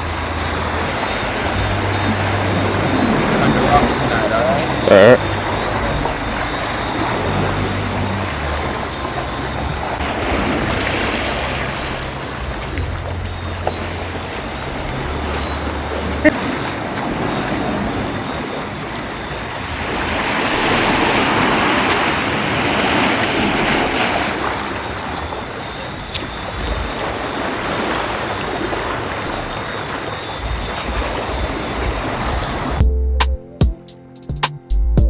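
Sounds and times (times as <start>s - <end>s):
ocean surf washing onto beach: 0.0s - 32.8s
wind buffeting microphone: 0.0s - 32.8s.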